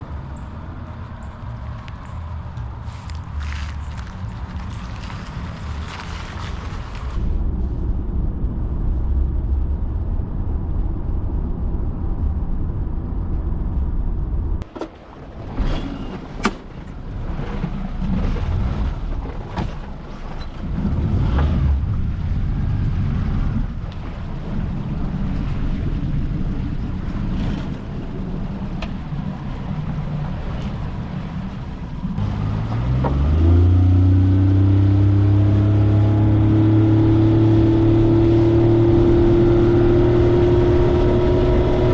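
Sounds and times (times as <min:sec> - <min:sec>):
vehicle road and wind rumble: 0:00.0 - 0:41.9.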